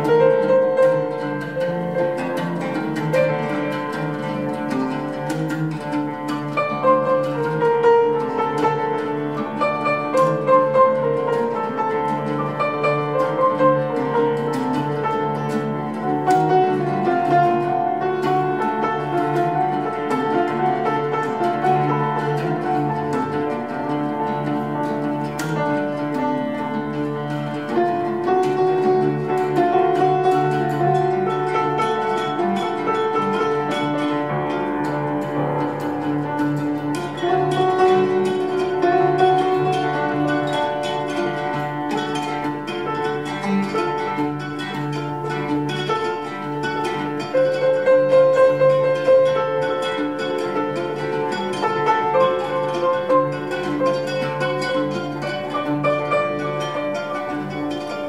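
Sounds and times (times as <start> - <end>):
piano tones: 0.0 - 58.0
plucked oud notes: 0.0 - 58.0.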